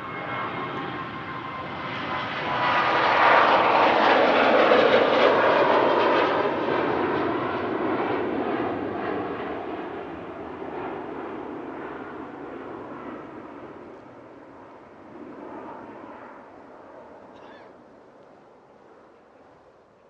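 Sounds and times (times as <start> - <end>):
jet airliner roaring past: 0.0 - 19.9.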